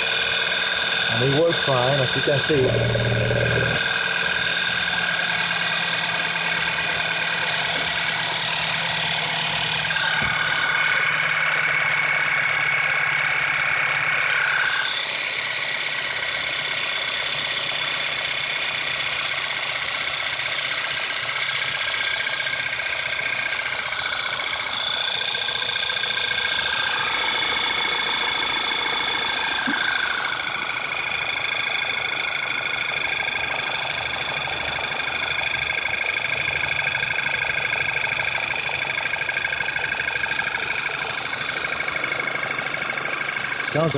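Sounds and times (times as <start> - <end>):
car engine idling: 0.0 - 43.9
fast engine ticking: 0.0 - 43.9.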